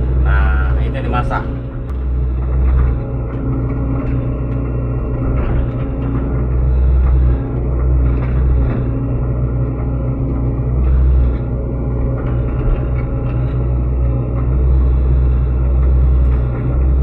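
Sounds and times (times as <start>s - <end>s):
excavator diesel engine drone: 0.0s - 17.0s.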